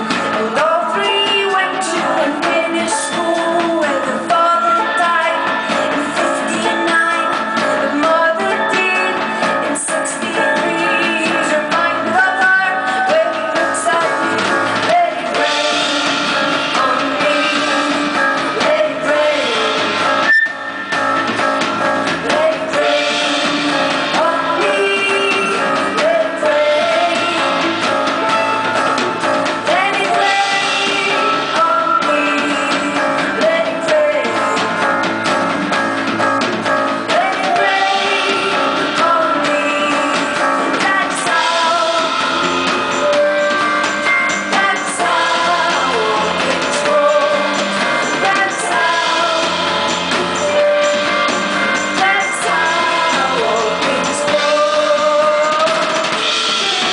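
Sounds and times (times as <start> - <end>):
drum kit and guitar: 0.0 - 56.9
woman singing lead: 0.0 - 56.9.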